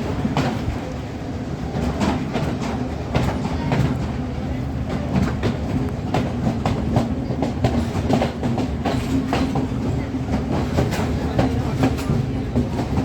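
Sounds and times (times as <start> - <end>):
train rumbling along track: 0.0 - 13.0
wheels clacking over rails: 1.7 - 13.0.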